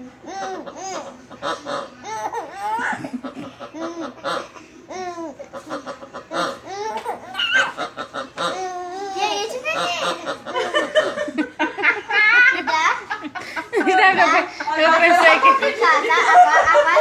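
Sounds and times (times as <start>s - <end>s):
baby laughing: 0.2s - 17.0s.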